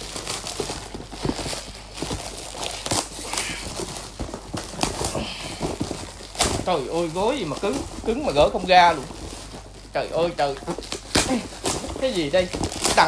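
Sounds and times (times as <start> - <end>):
wrapping paper crinkling and tearing: 0.0 - 13.0.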